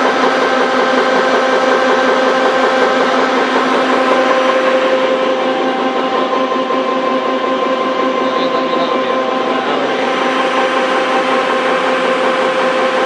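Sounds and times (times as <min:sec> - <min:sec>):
loud steady machine drone: 0:00.0 - 0:13.0.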